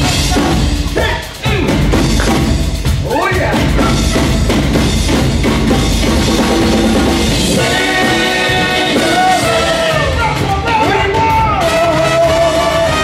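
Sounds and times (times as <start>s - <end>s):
drum kit: 0.0s - 13.0s
live band playing: 0.0s - 13.0s.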